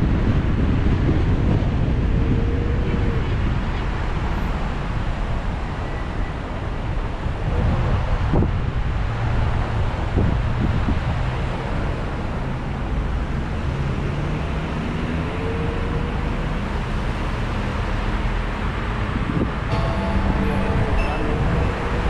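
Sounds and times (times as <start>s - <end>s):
wind buffeting microphone: 0.0s - 13.2s, 15.9s - 22.0s
road traffic rumble: 0.0s - 22.0s.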